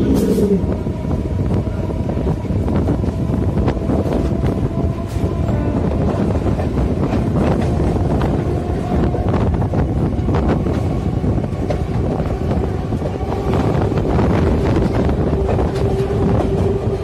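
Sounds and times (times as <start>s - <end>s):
train wheels rumbling on rails: 0.0s - 17.0s
wind buffeting microphone: 0.0s - 17.0s.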